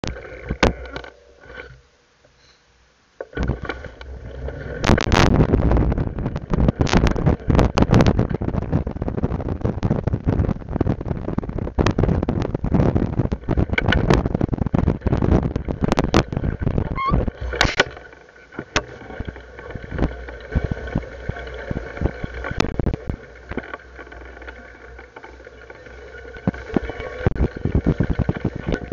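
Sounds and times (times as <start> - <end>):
camera rattling on rough trail: 3.2 - 28.9.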